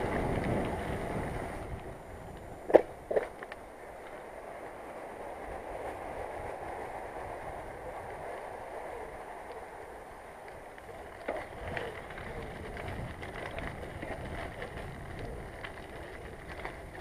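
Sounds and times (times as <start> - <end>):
bike clicks and rattles: 0.0 - 4.5, 7.8 - 17.0
bicycle tyres rolling: 0.0 - 17.0.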